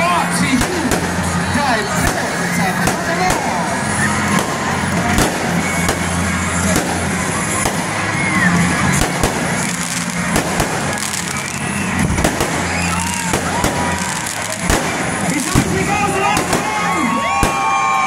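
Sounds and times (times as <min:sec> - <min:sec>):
fireworks bangs and pops: 0:00.3 - 0:18.0.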